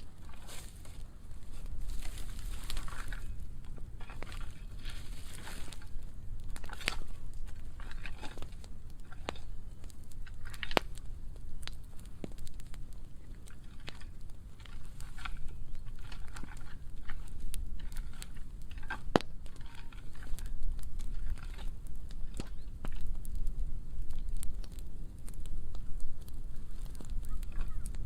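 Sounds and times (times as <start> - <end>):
low fire rumble: 0.0 - 28.0
wood fire crackling and popping: 0.0 - 28.0.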